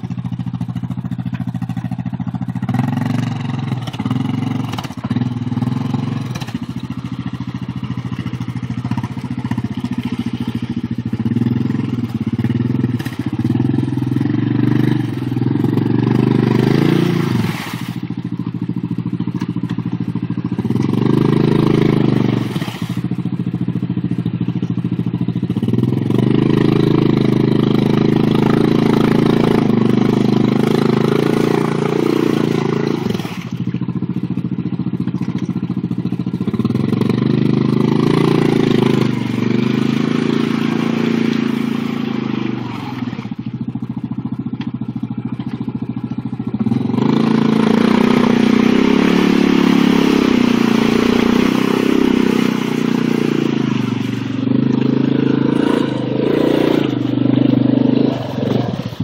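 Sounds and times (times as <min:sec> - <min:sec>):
atv engine revving: 0:00.0 - 0:59.0
wheels spinning in mud: 0:00.0 - 0:59.0.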